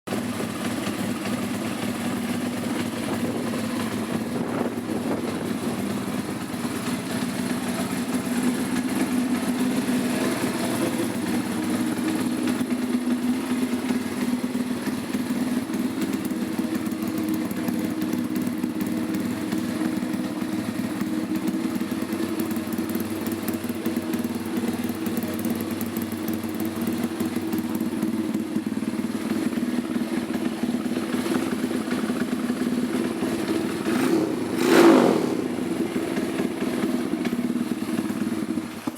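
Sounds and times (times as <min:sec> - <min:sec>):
motorbike engine idling: 0:00.1 - 0:38.9.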